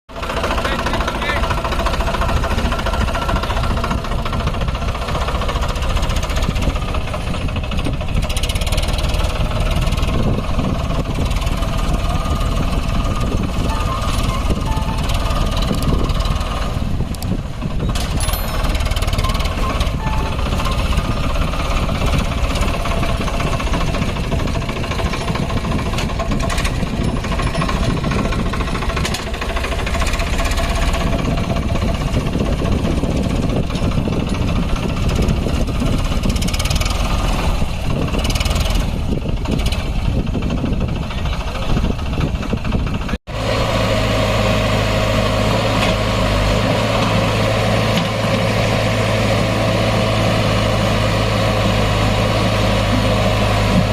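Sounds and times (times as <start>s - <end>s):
heavy diesel engines running: 0.1s - 53.9s.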